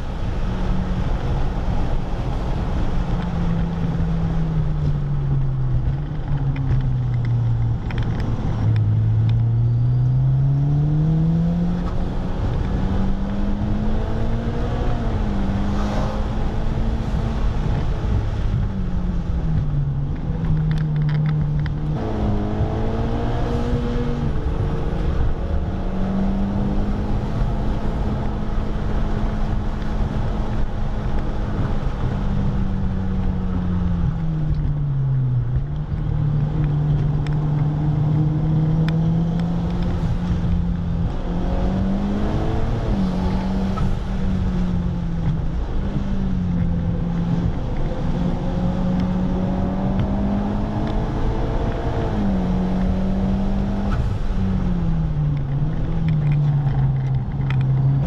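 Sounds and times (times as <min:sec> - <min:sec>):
car engine accelerating and braking: 0:00.0 - 0:58.0
road and wind noise: 0:00.0 - 0:58.0.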